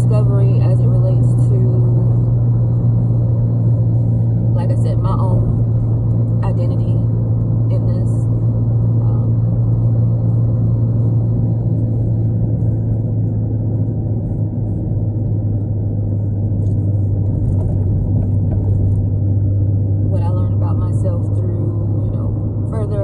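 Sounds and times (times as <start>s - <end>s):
car interior engine and road rumble: 0.0s - 23.0s.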